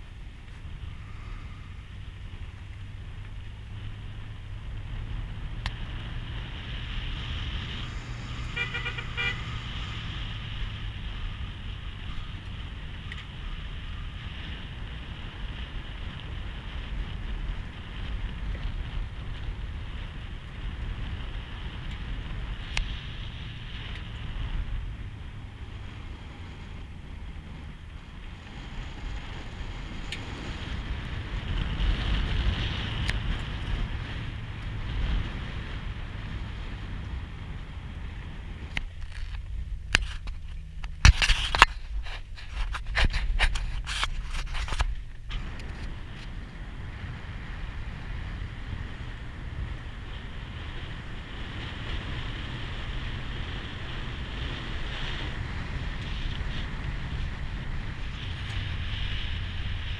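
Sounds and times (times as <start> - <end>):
vehicle engine rumble and road noise: 0.0 - 59.9.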